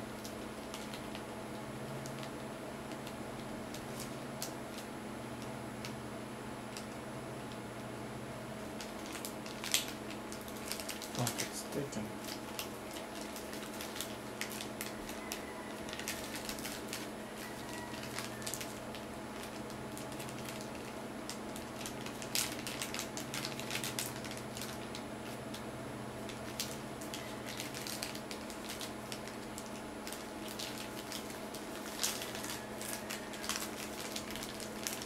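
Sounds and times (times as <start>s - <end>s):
plastic bag crinkling: 0.0s - 1.3s, 1.9s - 4.9s, 8.6s - 25.6s, 26.2s - 35.0s
steady low hum: 0.0s - 35.0s.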